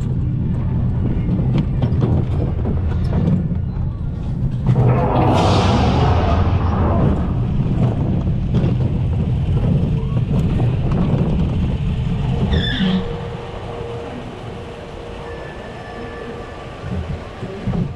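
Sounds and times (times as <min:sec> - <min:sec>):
roller coaster wheels rumbling: 0:00.0 - 0:17.9.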